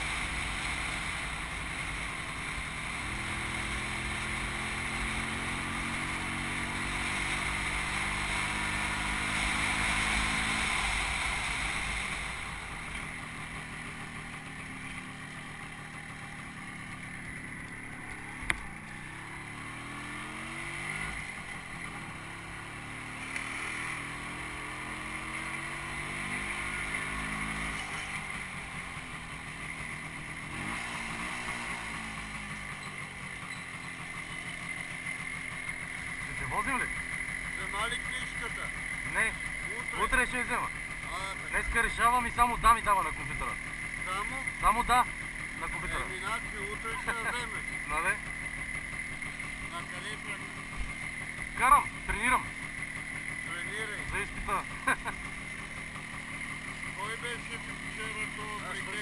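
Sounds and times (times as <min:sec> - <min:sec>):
wind and road noise: 0:00.0 - 0:57.4
small motorcycle engine revving: 0:00.0 - 0:59.0.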